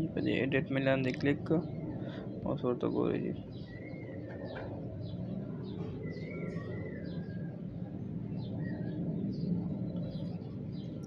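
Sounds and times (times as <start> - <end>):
birds chirping and whistling: 0.0 - 11.0
steady low hum: 0.0 - 11.0.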